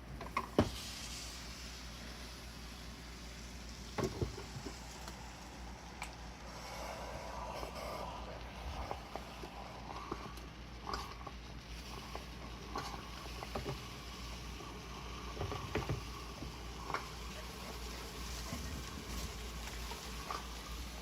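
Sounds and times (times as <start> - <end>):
coffee maker gurgling: 0.0 - 21.0
steady low hum: 0.0 - 21.0.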